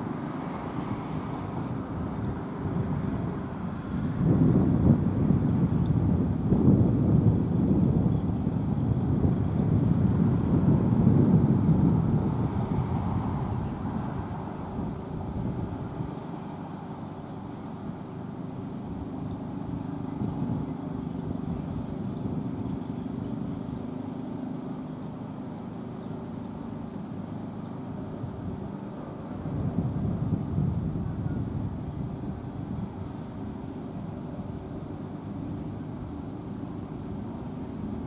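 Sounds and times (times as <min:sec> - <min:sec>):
faint high electronic whine: 0:00.0 - 0:38.0.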